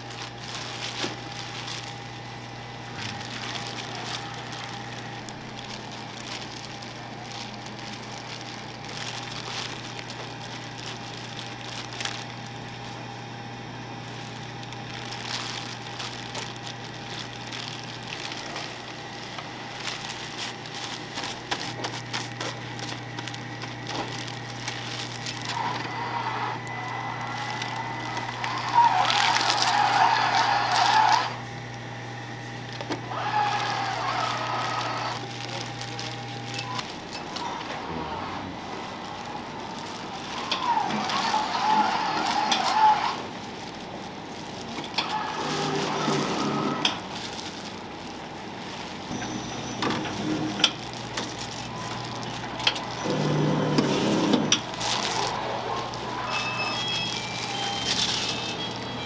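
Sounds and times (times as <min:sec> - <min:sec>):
machine humming: 0:00.0 - 0:59.0
plastic crinkling and rustling: 0:00.0 - 0:59.0.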